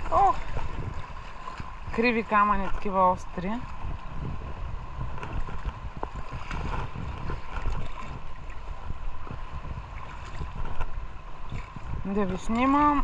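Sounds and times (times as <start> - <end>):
muffled rumble: 0.0 - 13.0
seawater sloshing around legs: 0.0 - 13.0.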